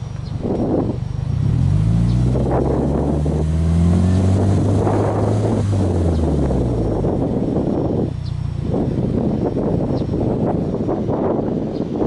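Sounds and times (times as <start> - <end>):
car engine revving at exhaust: 0.0 - 12.0.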